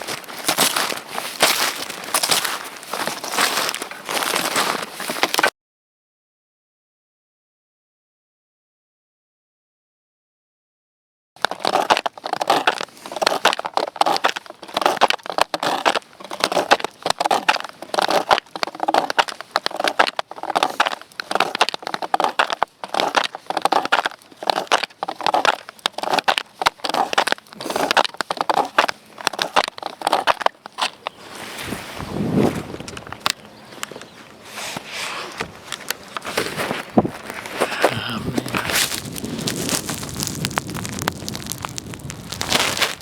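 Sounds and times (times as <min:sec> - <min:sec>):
footsteps crunching through snow: 0:00.0 - 0:05.5, 0:11.4 - 0:43.0.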